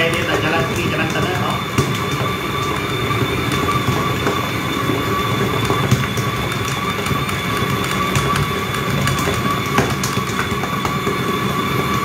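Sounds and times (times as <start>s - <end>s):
mixer rattling and clicking: 0.0s - 12.0s
stand mixer motor whining: 0.0s - 12.0s.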